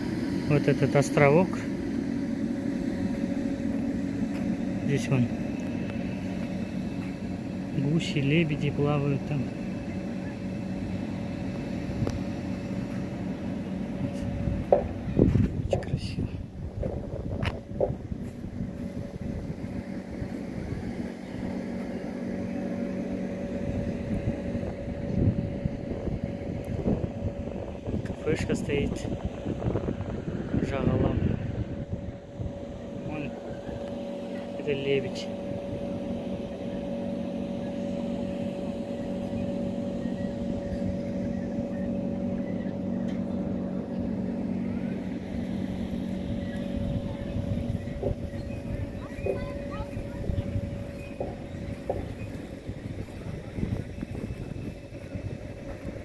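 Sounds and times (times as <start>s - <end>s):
distant motor hum: 0.0s - 56.0s
wind rumbling on microphone: 9.6s - 34.3s, 35.3s - 56.0s.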